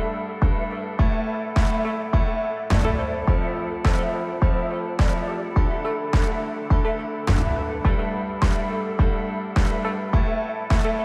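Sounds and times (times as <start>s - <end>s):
deep thumping beat: 0.0s - 11.0s
held electronic chords: 0.0s - 11.0s.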